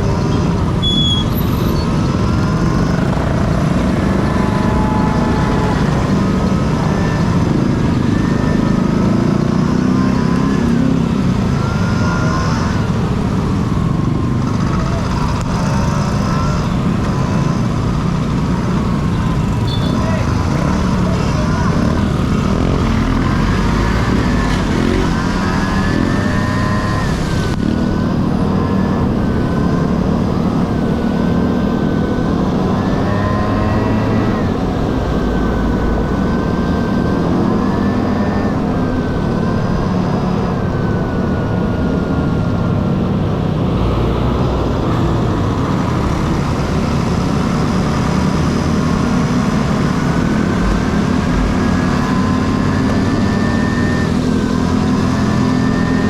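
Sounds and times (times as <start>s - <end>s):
scooter engine buzzing: 0.0s - 56.0s.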